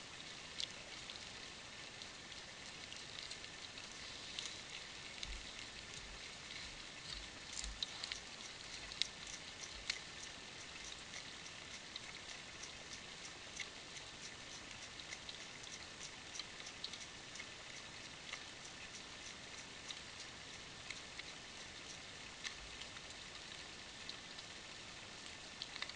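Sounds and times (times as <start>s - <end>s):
faint hiss: 0.0s - 25.9s
deer licking and gnawing: 0.6s - 24.6s.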